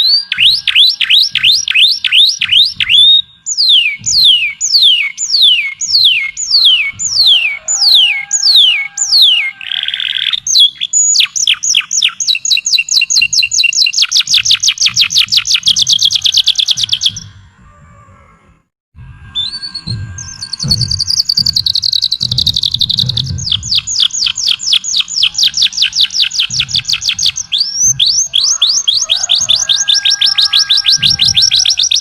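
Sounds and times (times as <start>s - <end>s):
fast bird trill: 0.0s - 17.4s, 19.4s - 32.0s
songbird whistled notes: 0.0s - 17.4s, 19.3s - 32.0s.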